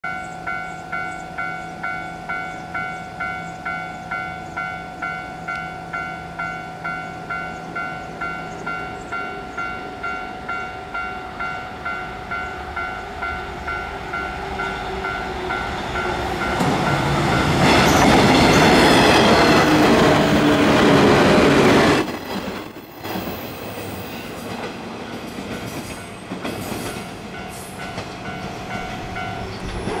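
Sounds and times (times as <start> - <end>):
electric train passing: 0.1 - 30.0.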